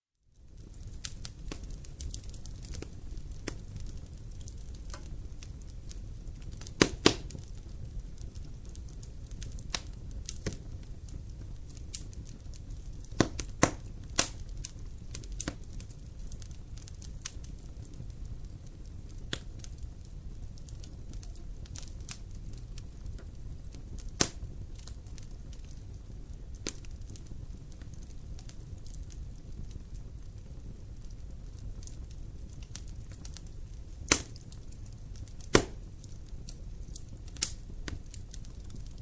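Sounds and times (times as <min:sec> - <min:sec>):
fire crackling and popping: 0:00.2 - 0:39.0
wood fire rumbling: 0:00.3 - 0:39.0.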